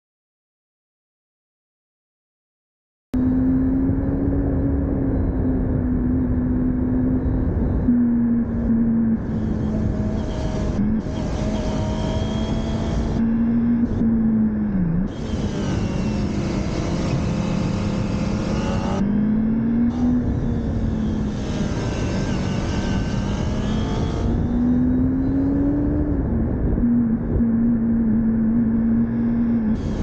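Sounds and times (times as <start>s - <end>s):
motorcycle engine revving: 3.2s - 30.0s.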